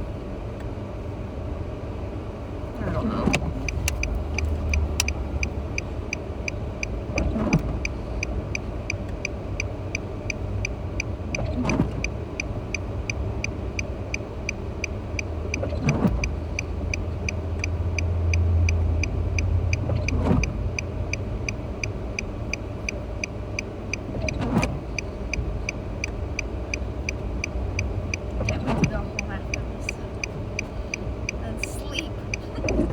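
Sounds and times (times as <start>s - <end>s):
car cabin rumble: 2.6s - 32.9s
windshield wiper sweep: 2.9s - 17.7s, 19.0s - 32.9s
turn signal ticking: 3.2s - 32.9s.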